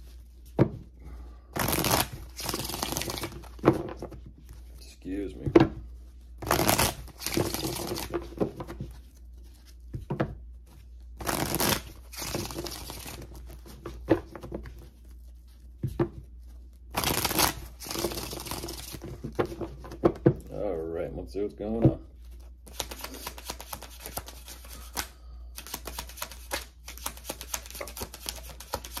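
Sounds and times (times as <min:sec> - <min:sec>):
cards being shuffled: 0:01.5 - 0:20.4, 0:22.2 - 0:29.0.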